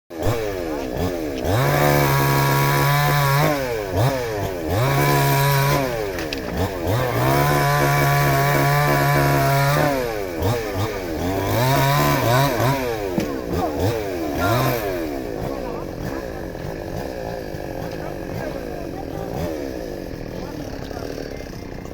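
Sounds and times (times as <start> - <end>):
small engine revving: 0.1 - 21.9.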